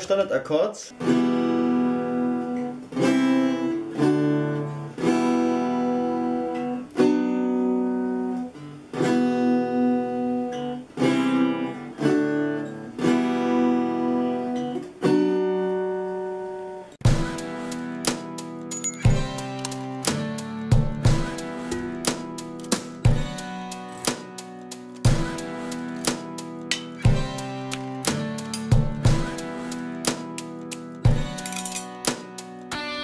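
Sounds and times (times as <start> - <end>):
acoustic guitar strumming chords: 1.0 - 33.0.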